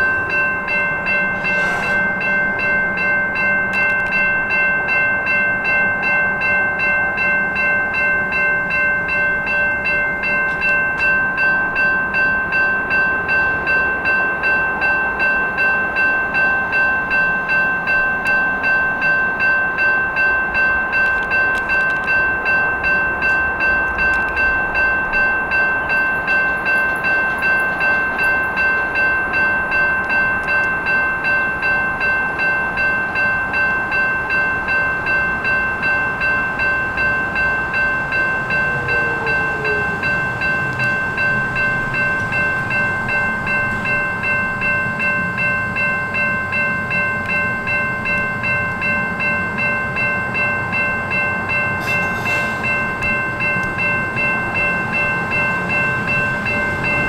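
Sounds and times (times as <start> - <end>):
crossing warning bell ringing: 0.0 - 57.0
train rumbling on track: 0.0 - 57.0.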